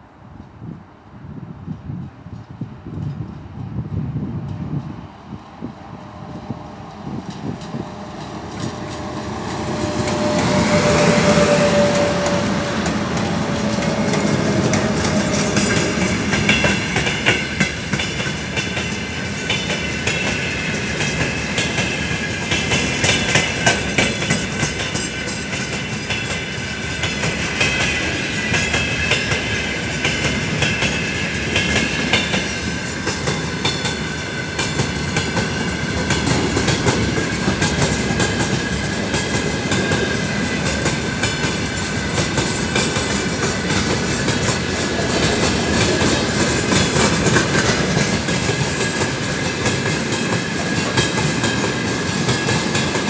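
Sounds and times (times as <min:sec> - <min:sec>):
locomotive passing with steady tone: 0:00.0 - 0:53.0.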